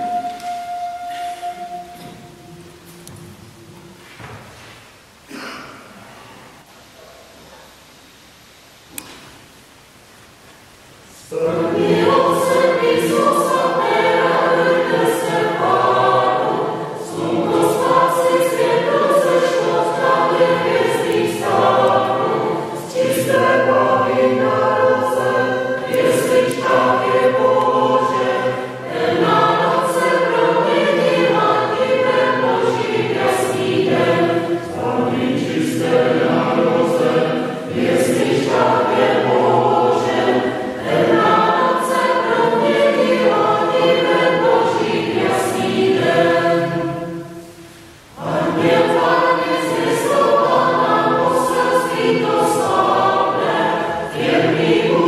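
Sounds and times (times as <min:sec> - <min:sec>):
mixed choir singing: 0:00.0 - 0:03.2, 0:11.1 - 0:55.0.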